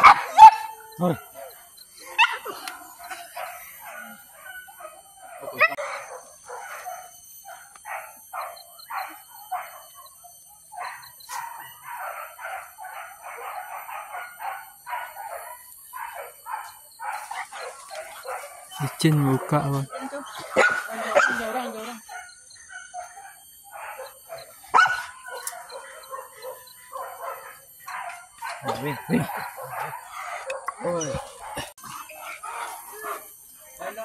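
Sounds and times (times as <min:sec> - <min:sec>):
dogs barking and yelping: 0:00.0 - 0:34.0.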